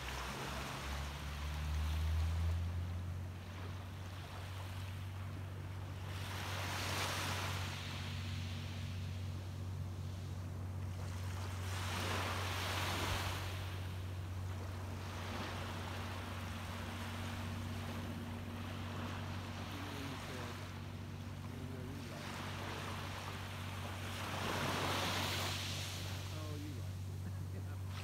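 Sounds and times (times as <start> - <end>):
low steady hum: 0.0 - 28.0
small waves washing on sand: 0.0 - 28.0.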